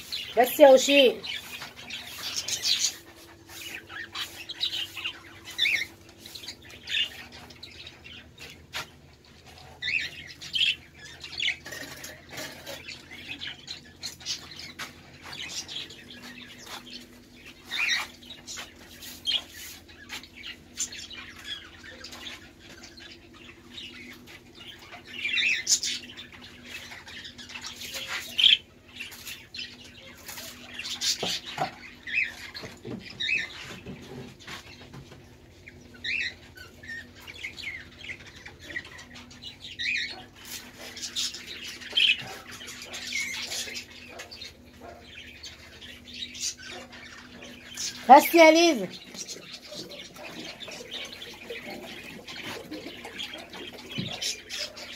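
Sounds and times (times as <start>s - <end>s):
birds chirping and squawking: 0.0s - 54.9s.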